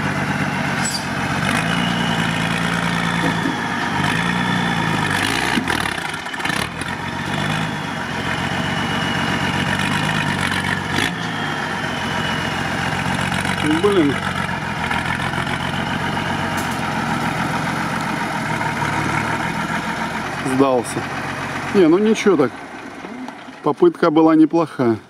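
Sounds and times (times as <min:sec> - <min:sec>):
truck engine idling and revving: 0:00.0 - 0:25.0.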